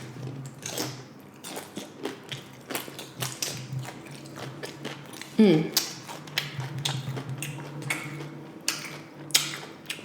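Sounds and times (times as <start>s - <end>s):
chewing crunchy chips: 0.0s - 10.0s.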